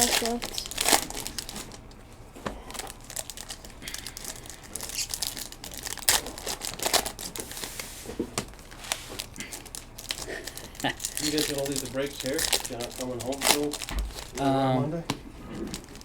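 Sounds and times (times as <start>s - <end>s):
wrappers crinkling and tearing: 0.0s - 14.7s, 15.3s - 16.0s.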